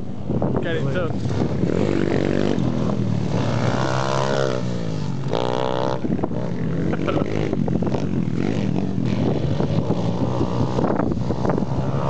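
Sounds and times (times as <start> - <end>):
small motorbike engine revving: 1.2 - 12.0.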